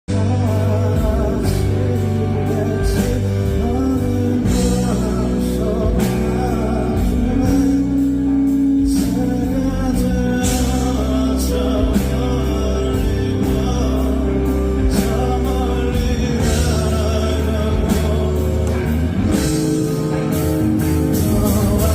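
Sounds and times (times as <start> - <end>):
man singing live with band: 0.1 - 21.9.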